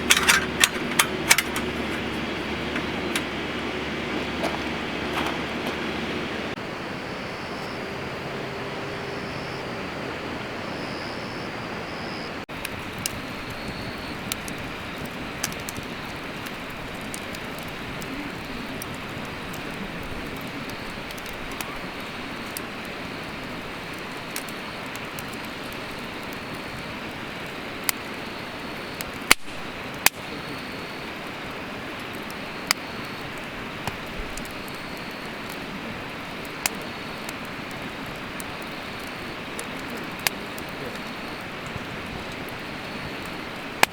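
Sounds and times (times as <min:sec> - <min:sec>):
burning wood crackling and popping: 0:00.0 - 0:06.6, 0:12.5 - 0:43.9
campfire hissing: 0:00.0 - 0:43.9.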